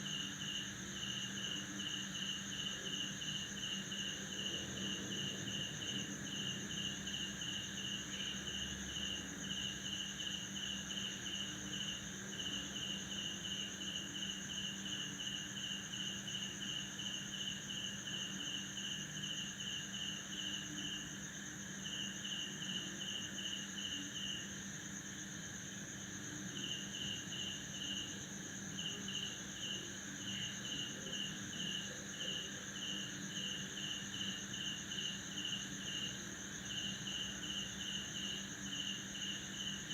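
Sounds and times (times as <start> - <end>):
cricket chirping: 0.0 - 39.9
high insect trill: 0.0 - 39.9.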